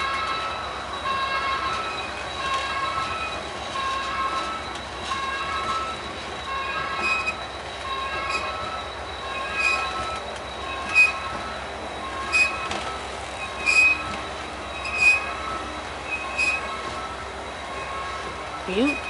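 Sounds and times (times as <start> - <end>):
freight train cars rolling: 0.0 - 19.0
steel wheels squealing: 0.0 - 19.0
train screech or clank: 0.0 - 19.0.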